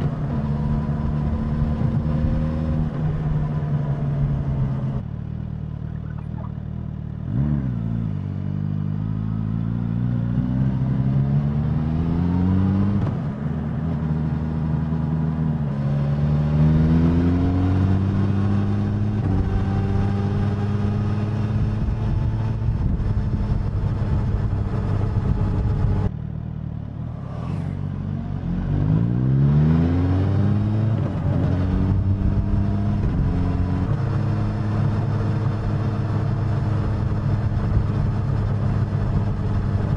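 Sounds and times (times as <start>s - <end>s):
motorcycle engine revving: 6.2s - 26.1s, 27.0s - 39.9s.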